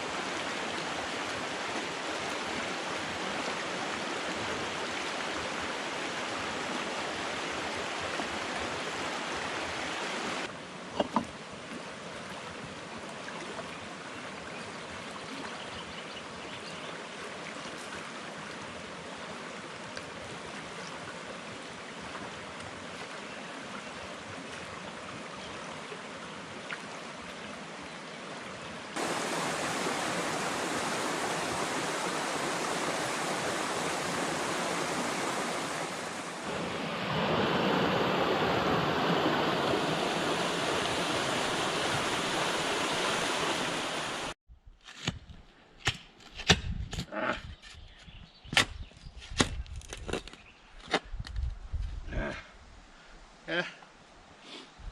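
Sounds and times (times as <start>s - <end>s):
running water rushing: 0.0s - 44.4s.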